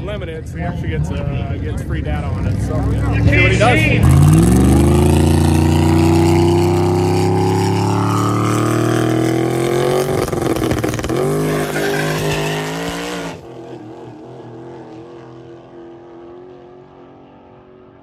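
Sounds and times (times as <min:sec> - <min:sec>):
drag car engine revving and accelerating: 0:00.8 - 0:18.0.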